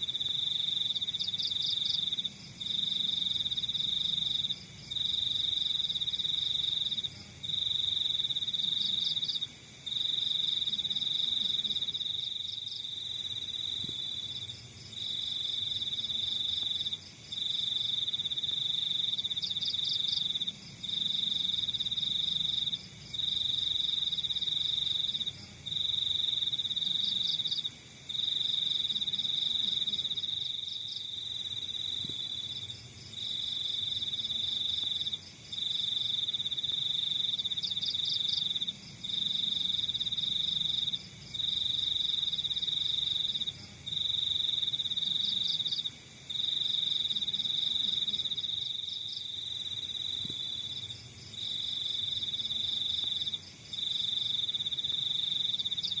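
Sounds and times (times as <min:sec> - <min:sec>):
crickets chirping: 0:00.0 - 0:56.0
loud high-pitched cricket trill: 0:00.0 - 0:56.0.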